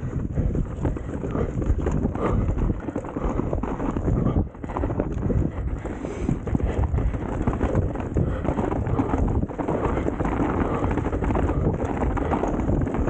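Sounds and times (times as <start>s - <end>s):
bike clattering over rough ground: 0.0s - 13.0s
wind on microphone: 0.0s - 13.0s.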